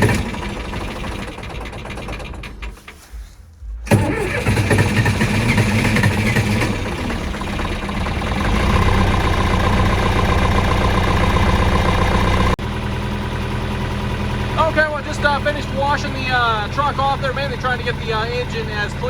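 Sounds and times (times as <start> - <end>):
tractor engine starting and idling: 0.0 - 19.0.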